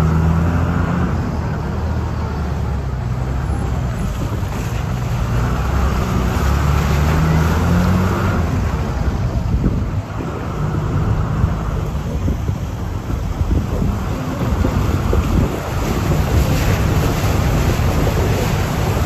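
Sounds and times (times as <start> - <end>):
rumble of noise: 0.0 - 19.0
vehicle engine humming: 0.0 - 19.0.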